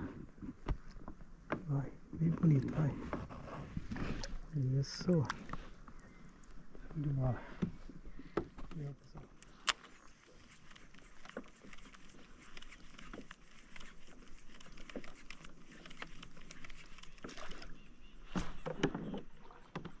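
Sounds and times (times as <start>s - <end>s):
water patter: 4.0s - 20.0s.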